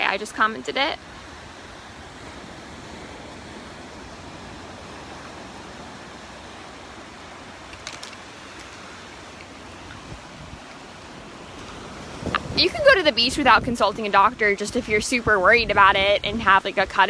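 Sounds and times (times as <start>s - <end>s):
surf washing ashore: 0.0s - 17.0s.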